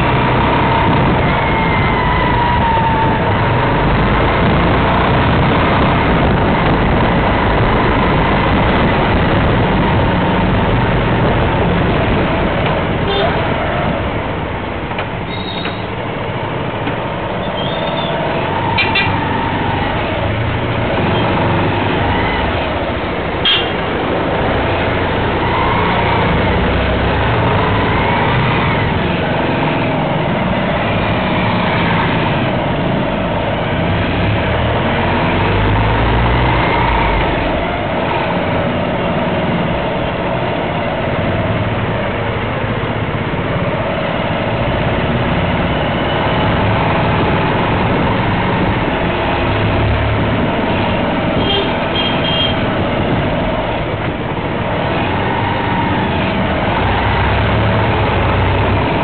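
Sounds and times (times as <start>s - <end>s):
vehicle engines in slow traffic: 0.0s - 59.0s.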